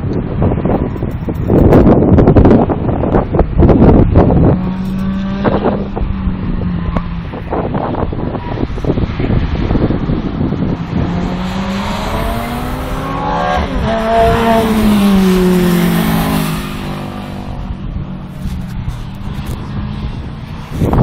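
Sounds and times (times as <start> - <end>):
race car passing at speed: 3.6 - 21.0.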